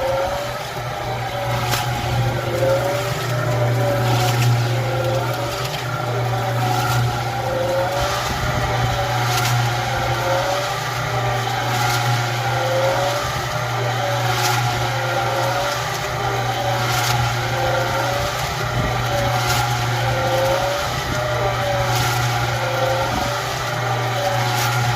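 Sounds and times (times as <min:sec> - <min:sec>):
concrete mixer drum turning: 0:00.0 - 0:24.9.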